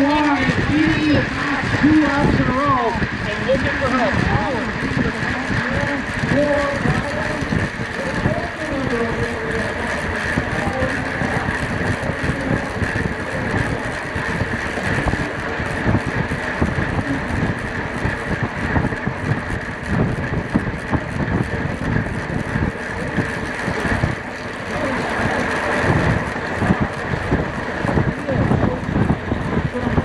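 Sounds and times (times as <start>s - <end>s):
bike tyre and drivetrain noise: 0.0s - 30.0s
steady high whine: 0.0s - 30.0s
wind buffeting microphone: 0.0s - 30.0s.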